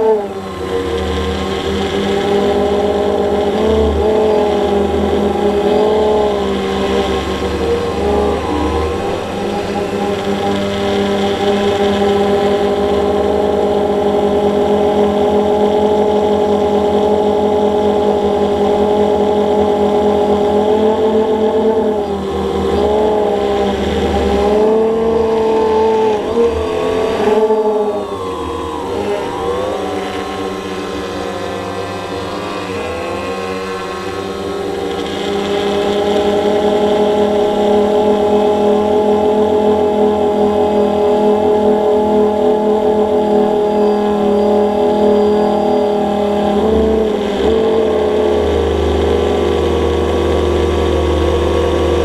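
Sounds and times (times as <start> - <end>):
drone propellers whining: 0.0 - 52.0.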